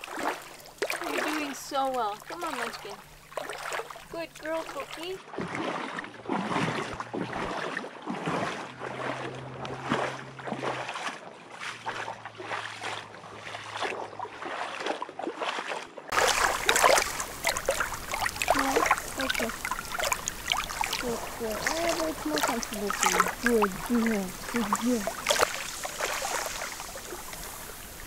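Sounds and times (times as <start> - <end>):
lake water lapping over stones: 0.0 - 28.0
wavelets washing over pebbles: 0.0 - 28.0.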